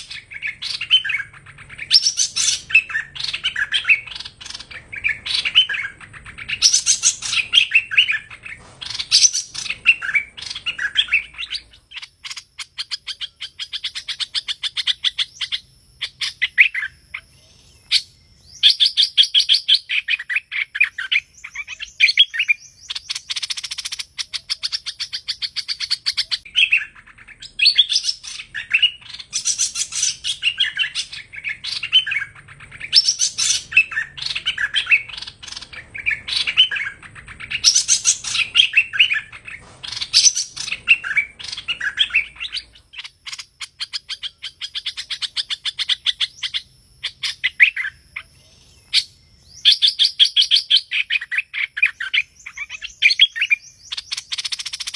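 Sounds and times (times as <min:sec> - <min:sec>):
songbird singing with trills: 0:00.0 - 0:54.9.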